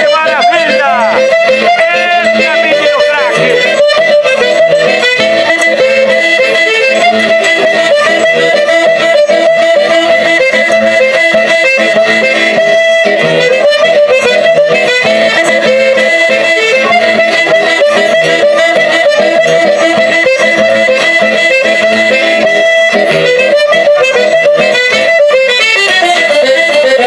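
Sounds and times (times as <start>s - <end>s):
accompanying instruments: 0.0s - 27.0s
button accordion playing folk tune: 0.0s - 27.0s.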